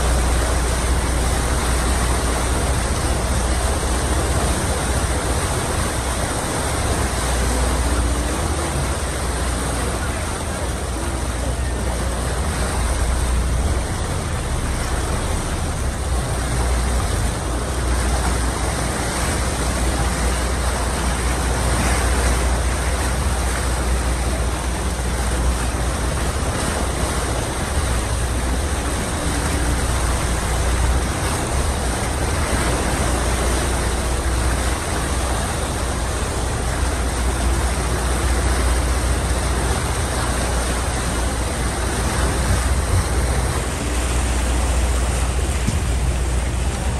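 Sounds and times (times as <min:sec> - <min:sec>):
boat engine: 0:00.0 - 0:46.9
water washing along hull: 0:00.0 - 0:46.9.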